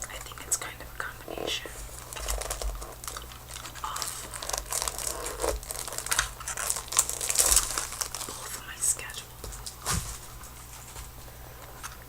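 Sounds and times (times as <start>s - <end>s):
crinkly material crackling: 0.0s - 12.0s.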